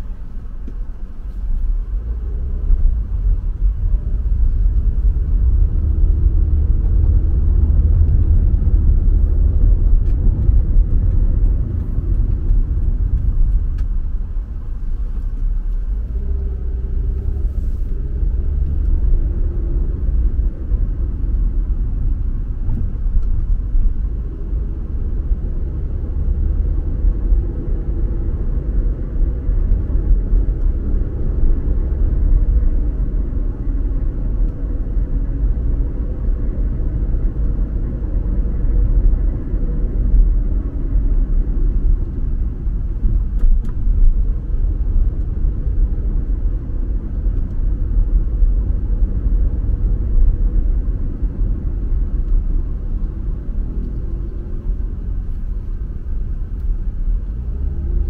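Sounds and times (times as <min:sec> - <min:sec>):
car tyre and engine rumble: 0:00.0 - 0:58.0.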